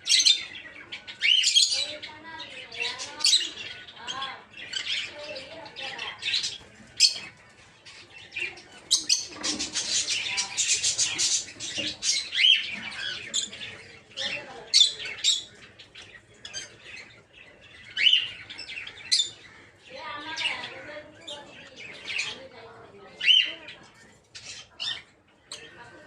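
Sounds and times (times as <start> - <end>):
lovebirds chirping and squawking: 0.0 - 26.0.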